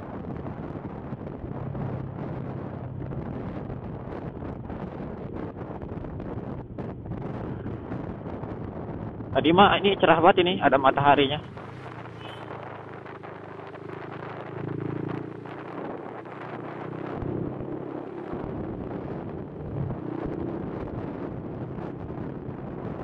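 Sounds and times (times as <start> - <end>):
wind buffeting helmet microphone: 0.0 - 23.0.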